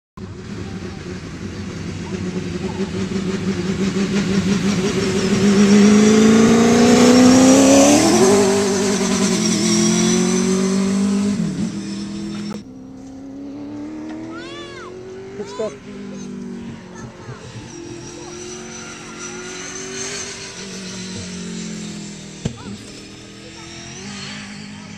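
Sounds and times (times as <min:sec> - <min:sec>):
race car engine passing: 0:00.2 - 0:24.9.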